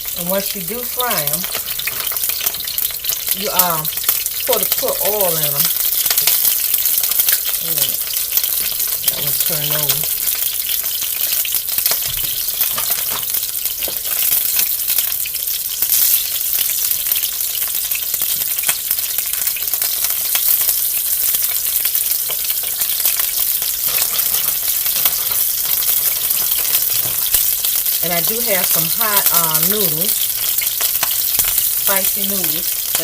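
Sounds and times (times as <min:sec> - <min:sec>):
dumplings sizzling in hot oil: 0:00.0 - 0:33.0.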